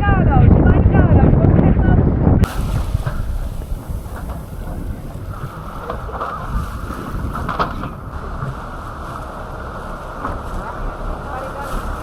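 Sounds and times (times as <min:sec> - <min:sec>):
wind buffeting microphone: 0:00.0 - 0:12.0
boat engine rumble: 0:01.8 - 0:12.0.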